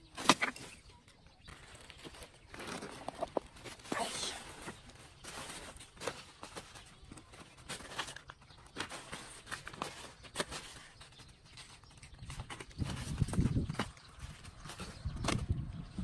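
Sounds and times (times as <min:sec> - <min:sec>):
plastic bags and papers rustling: 0:00.0 - 0:16.0.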